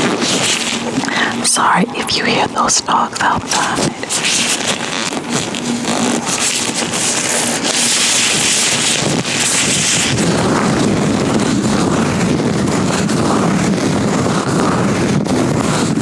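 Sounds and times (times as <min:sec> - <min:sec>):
gloved hands rubbing on microphone: 0:00.0 - 0:16.0.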